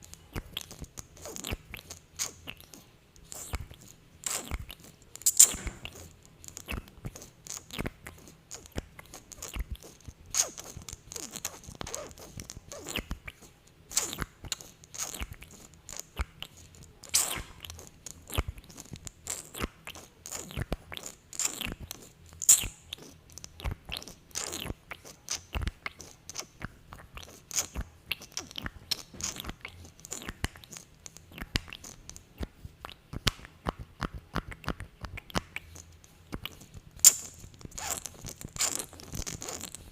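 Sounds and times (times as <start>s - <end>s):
wet lip smacks: 0.3s - 39.9s.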